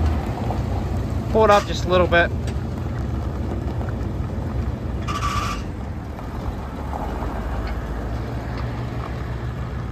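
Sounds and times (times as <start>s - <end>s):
truck engine running slowly: 0.0s - 9.9s.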